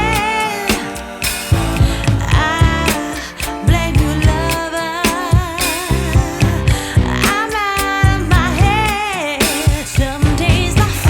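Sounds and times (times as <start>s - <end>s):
drum beat and bass: 0.0s - 11.0s
person singing a melody: 0.0s - 11.0s.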